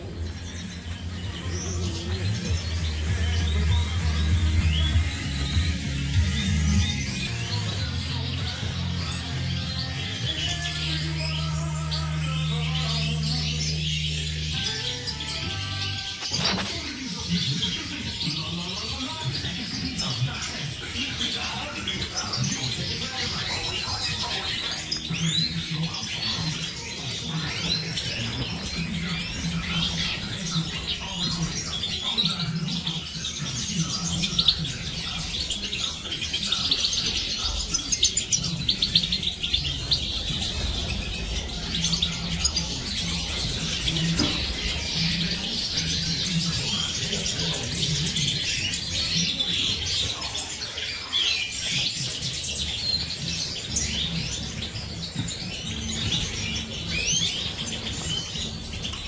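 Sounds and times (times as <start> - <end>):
flock of finches twittering: 0.0 - 59.0.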